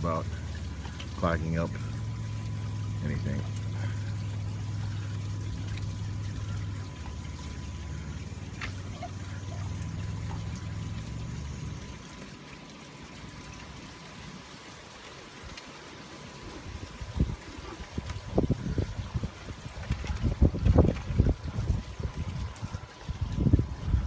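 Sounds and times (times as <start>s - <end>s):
low hum: 0.0s - 24.0s
water trickling from hose: 0.0s - 24.0s.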